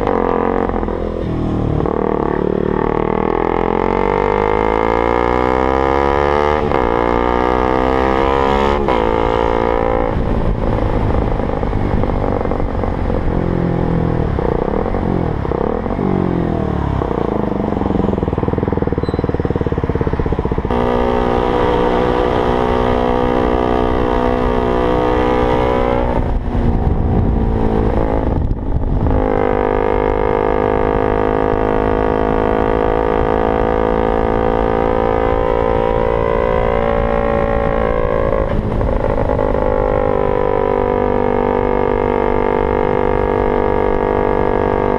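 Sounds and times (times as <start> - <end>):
motorcycle engine revving through gears: 0.0 - 44.9.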